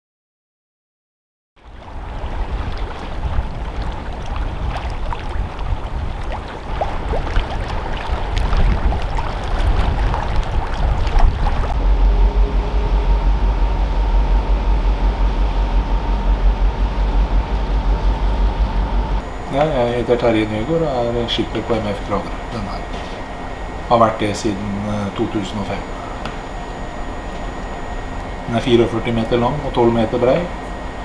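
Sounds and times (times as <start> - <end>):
steady hum: 1.6 - 31.0
water noise: 1.6 - 31.0
wind: 1.6 - 31.0
deep engine drone: 1.8 - 31.0.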